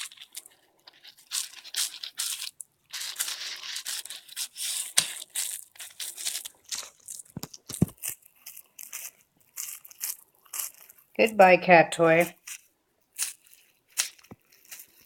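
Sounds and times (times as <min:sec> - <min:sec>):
pet chewing crinkly toy: 0:00.0 - 0:15.0.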